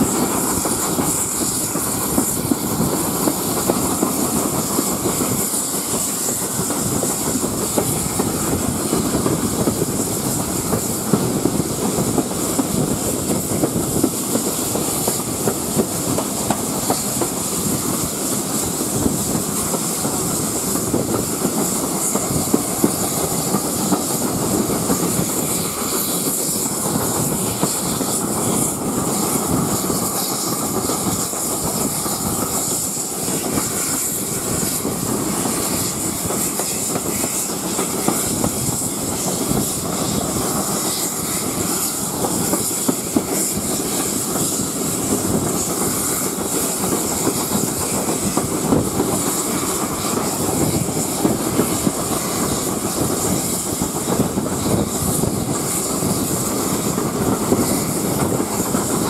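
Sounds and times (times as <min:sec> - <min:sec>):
steam locomotive working: 0:00.0 - 0:59.0
train wheels clickety-clack: 0:00.0 - 0:59.0
wind rushing: 0:00.0 - 0:59.0.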